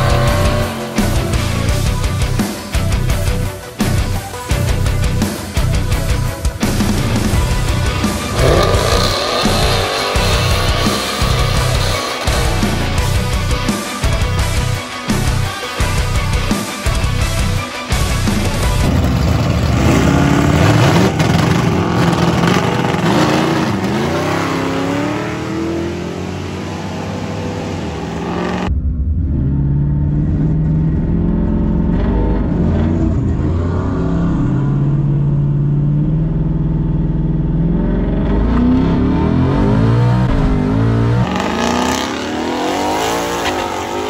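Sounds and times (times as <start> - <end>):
car engine revving: 0.0 - 3.5, 6.6 - 14.7, 17.4 - 44.0.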